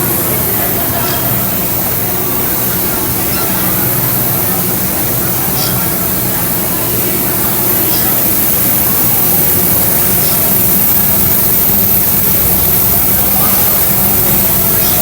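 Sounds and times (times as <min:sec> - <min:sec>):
crowd voices: 0:00.0 - 0:15.0
loud rushing noise: 0:00.0 - 0:15.0.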